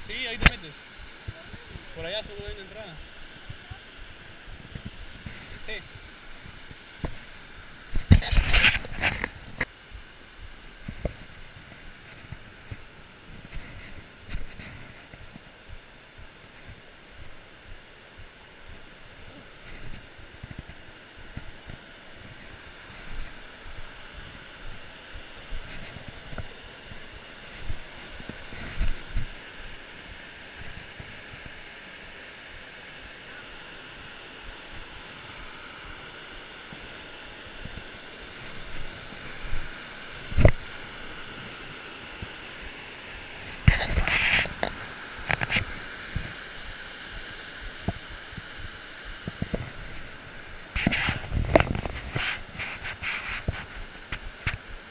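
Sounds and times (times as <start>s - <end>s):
waterfall and stream rushing: 0.0s - 54.9s.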